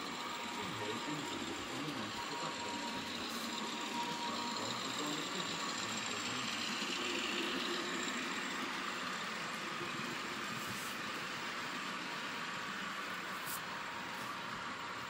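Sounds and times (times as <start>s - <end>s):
model diesel engine sound: 0.0s - 15.0s.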